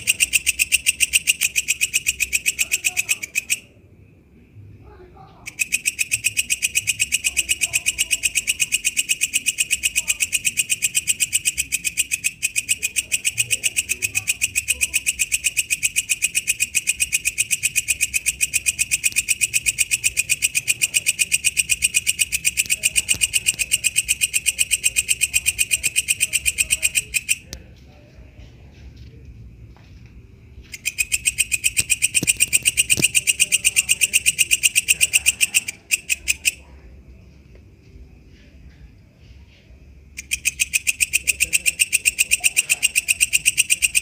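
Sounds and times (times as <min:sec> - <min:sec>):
katydid clicking chirps: 0:00.0 - 0:03.7, 0:05.4 - 0:27.7, 0:30.7 - 0:36.6, 0:40.1 - 0:44.0.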